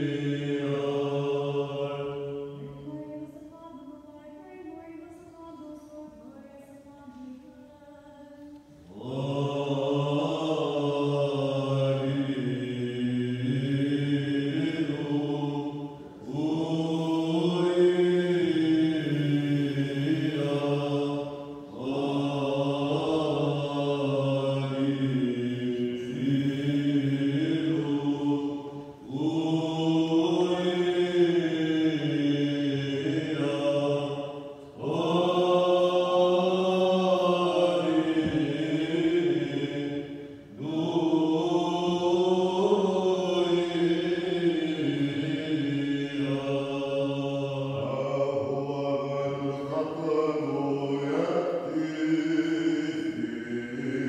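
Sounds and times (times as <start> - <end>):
men chanting a hymn: 0.0 - 3.0, 8.6 - 54.0.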